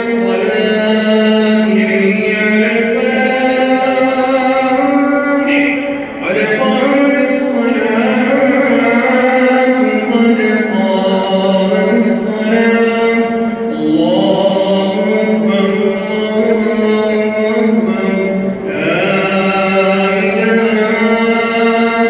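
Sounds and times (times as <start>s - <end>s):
man chanting prayer recitation: 0.0s - 22.0s.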